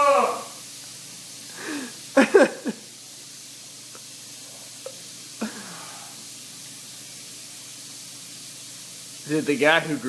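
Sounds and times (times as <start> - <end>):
tap running at sink: 0.0 - 10.0.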